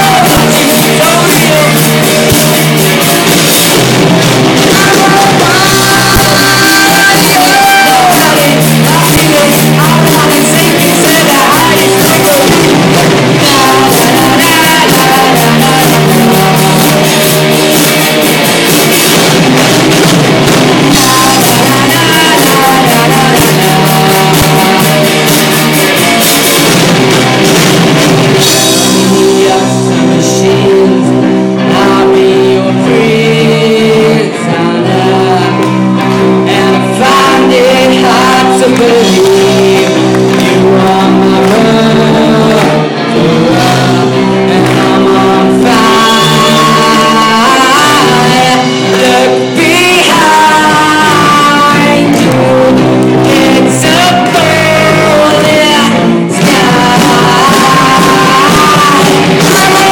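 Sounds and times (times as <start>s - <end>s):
drums and cymbals: 0.0s - 34.3s, 36.2s - 59.9s
person singing: 0.0s - 59.9s
rock guitar: 0.0s - 59.9s.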